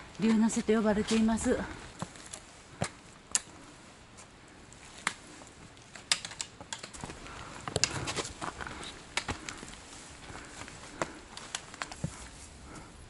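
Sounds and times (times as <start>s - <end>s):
footsteps on rocky trail: 0.2s - 3.2s, 4.1s - 12.9s
trekking poles clicking on stone: 0.2s - 3.6s, 4.2s - 12.4s.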